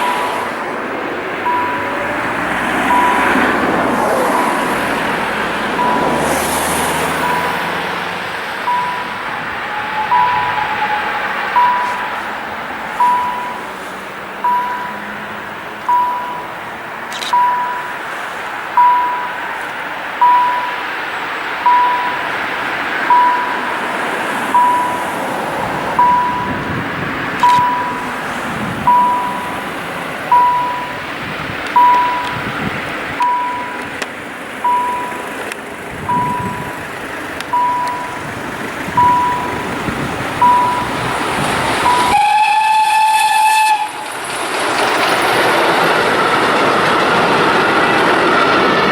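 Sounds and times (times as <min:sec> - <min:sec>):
level crossing warning beeps: 0:00.0 - 0:42.4
steady outdoor hum: 0:00.0 - 0:42.4.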